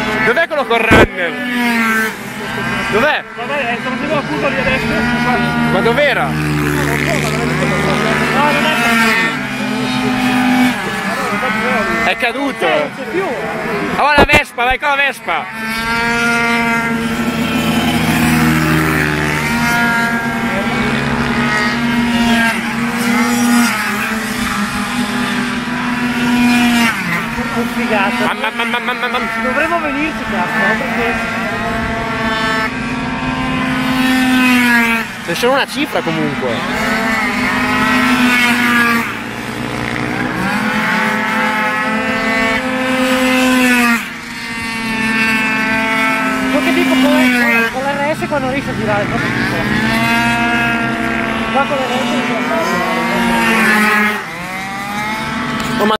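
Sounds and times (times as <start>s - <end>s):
small racing engines revving: 0.0s - 55.9s
steady engine note: 0.0s - 55.9s.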